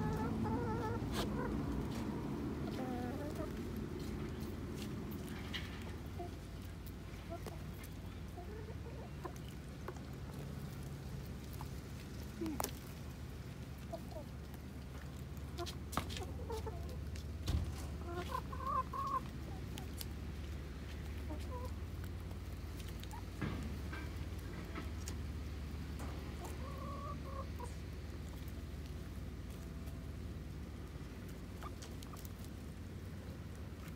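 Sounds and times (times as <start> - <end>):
beaks pecking at ground: 0.0 - 33.9
hens clucking: 0.0 - 33.9.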